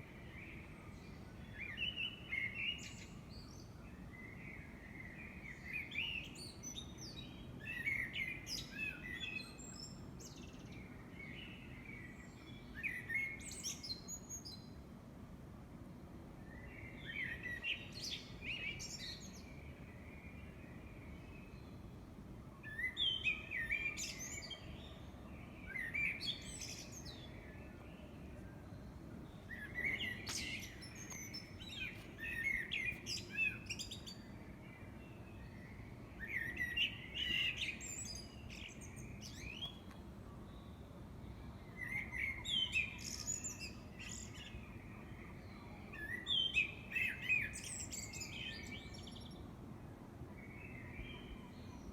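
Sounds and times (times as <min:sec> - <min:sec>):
songbird singing: 0:00.0 - 0:14.9, 0:16.4 - 0:51.9
faint steady hiss: 0:00.0 - 0:51.9.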